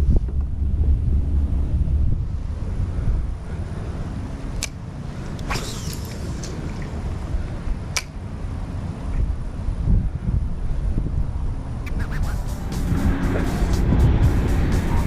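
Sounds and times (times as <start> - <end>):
wind buffeting microphone: 0.0 - 11.9, 12.8 - 15.0.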